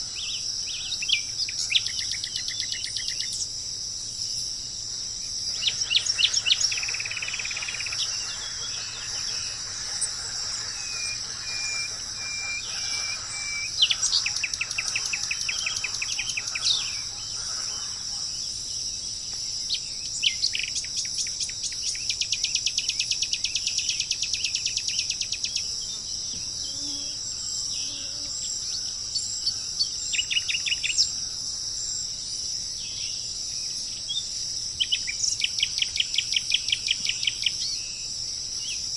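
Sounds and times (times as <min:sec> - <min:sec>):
insects chorus: 0:00.0 - 0:38.9
songbirds singing: 0:00.0 - 0:38.9.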